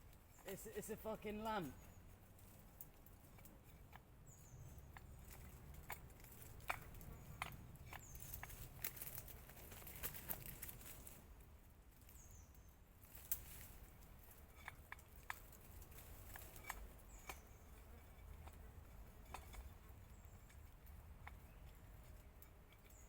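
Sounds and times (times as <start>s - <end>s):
hands working at twigs: 0.0s - 11.4s, 12.0s - 23.0s.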